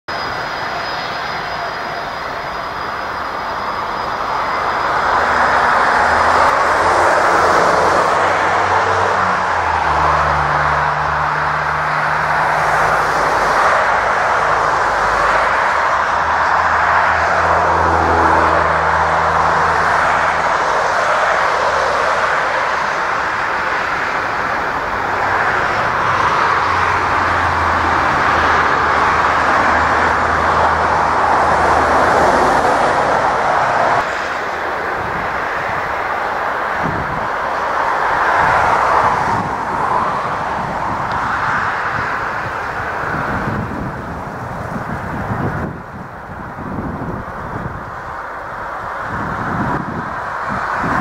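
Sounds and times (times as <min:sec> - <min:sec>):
jet airliner engines roaring: 0:00.1 - 0:51.0.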